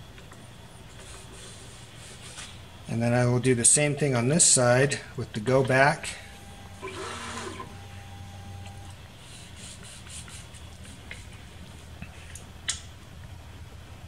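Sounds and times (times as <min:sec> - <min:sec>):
printer cooling fans humming: 0:00.0 - 0:14.0.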